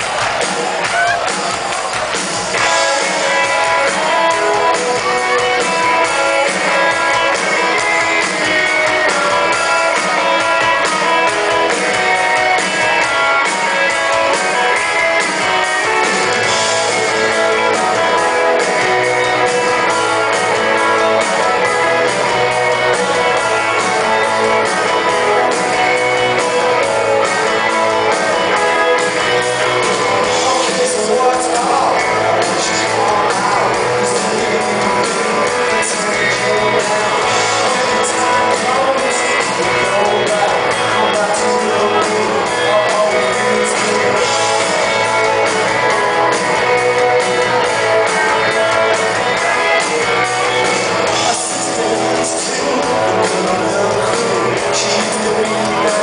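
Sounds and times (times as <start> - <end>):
bass line: 0.0 - 56.0
drums: 0.0 - 56.0
electric guitars strumming: 0.0 - 56.0.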